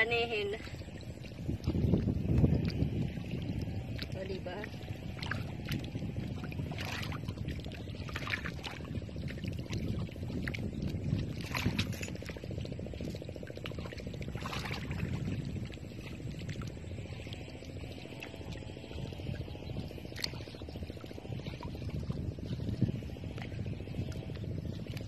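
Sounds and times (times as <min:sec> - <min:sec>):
steady low rumble: 0:00.0 - 0:25.0
water splashing: 0:00.0 - 0:25.0.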